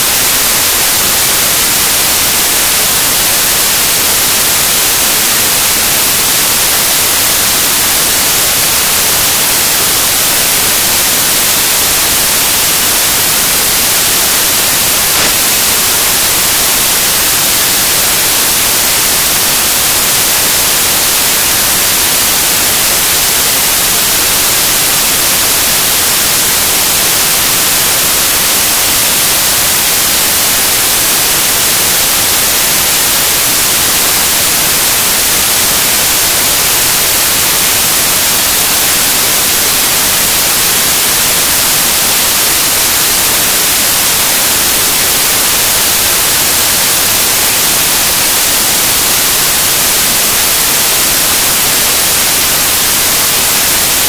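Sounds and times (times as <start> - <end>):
static hiss: 0.0 - 54.0.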